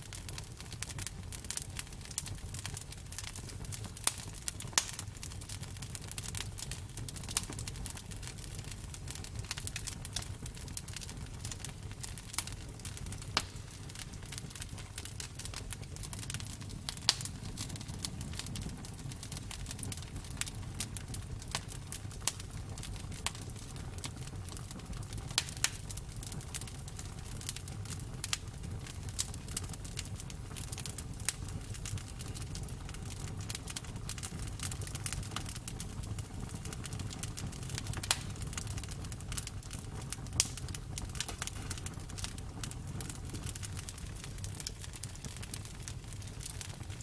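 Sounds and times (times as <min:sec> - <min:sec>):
burning wood crackling and popping: 0:00.0 - 0:47.0
low rumble of flames: 0:00.0 - 0:47.0.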